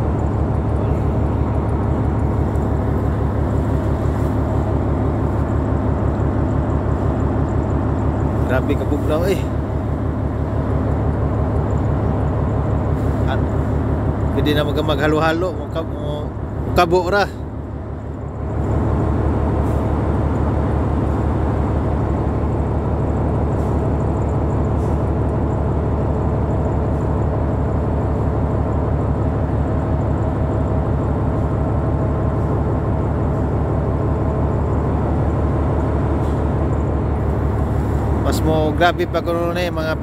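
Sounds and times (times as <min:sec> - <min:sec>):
ship engine rumbling: 0:00.0 - 0:40.0.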